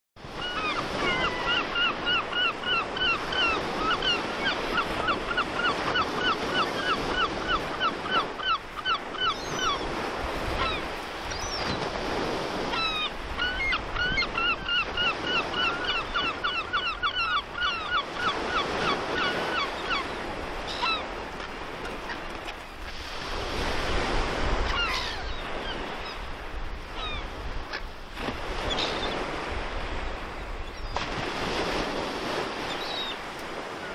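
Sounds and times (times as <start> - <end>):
sea surf breaking: 0.2 - 16.4, 18.1 - 33.9.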